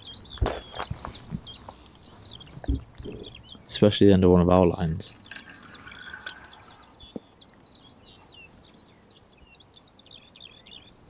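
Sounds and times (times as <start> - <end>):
songbird twittering: 0.0 - 11.0.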